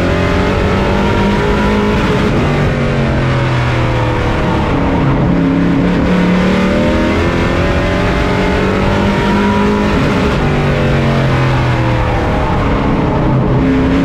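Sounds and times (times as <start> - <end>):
truck engine running hard: 0.0 - 14.0.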